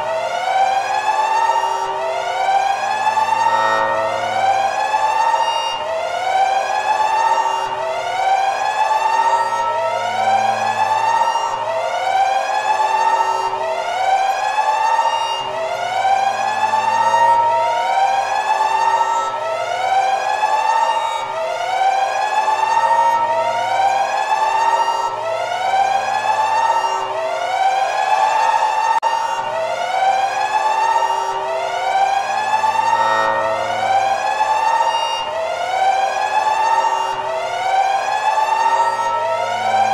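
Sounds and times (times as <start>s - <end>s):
electronic siren alarm wailing: 0.0s - 39.9s.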